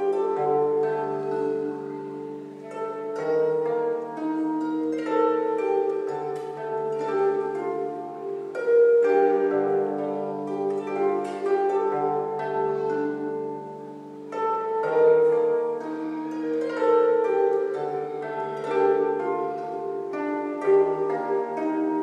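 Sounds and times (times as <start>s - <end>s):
plucked harp melody: 0.0s - 22.0s.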